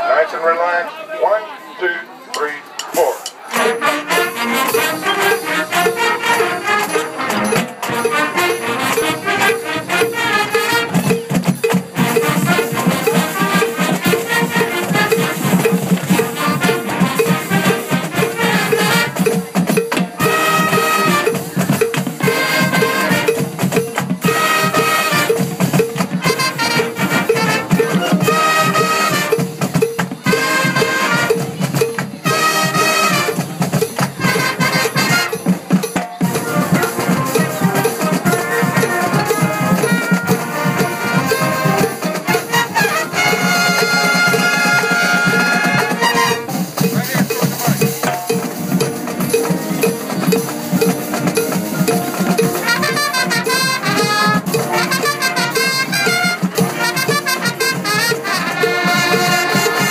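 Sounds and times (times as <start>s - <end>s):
drumline steady beat: 0.0s - 59.9s
sousaphones: 0.0s - 59.9s
trumpets: 0.0s - 59.9s.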